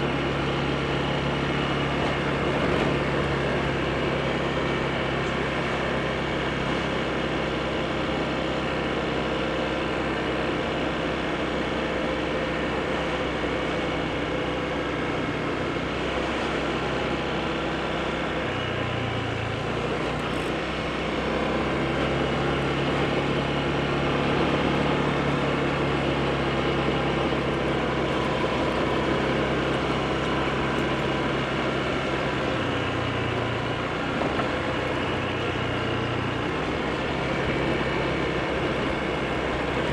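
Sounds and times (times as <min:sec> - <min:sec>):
scooter engine running: 0:00.0 - 0:39.9
wind and road noise: 0:00.0 - 0:39.9.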